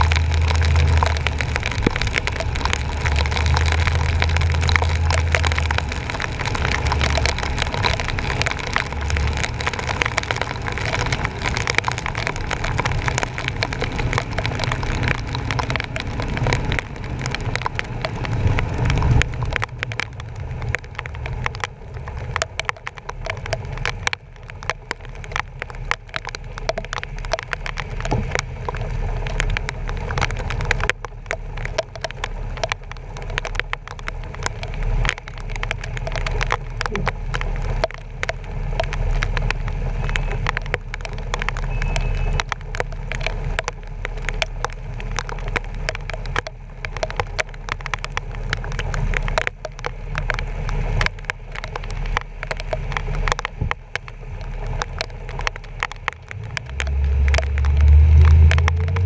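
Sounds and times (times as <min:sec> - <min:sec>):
heavy rain drops crackling: 0:00.0 - 0:59.0
truck driving rumble: 0:00.0 - 0:59.0.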